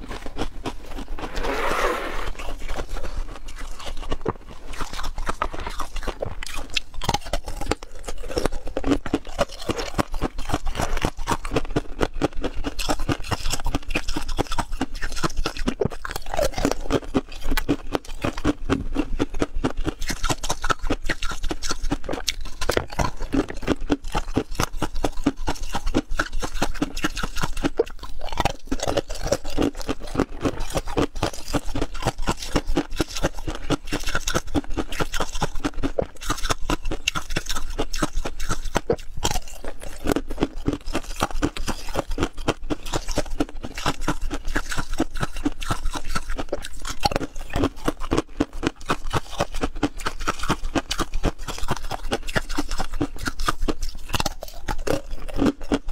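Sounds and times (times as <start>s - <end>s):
chewing ice cubes crunching: 0.0s - 1.4s, 2.2s - 55.9s.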